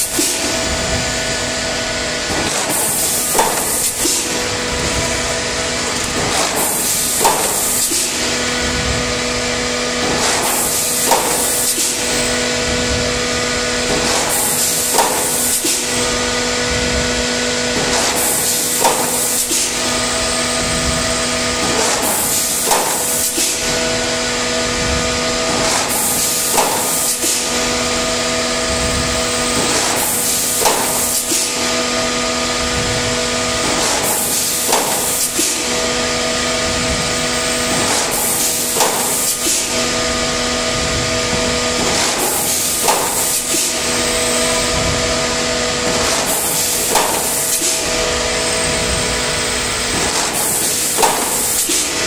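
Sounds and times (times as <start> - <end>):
thermoforming machine hum: 0.0 - 52.0.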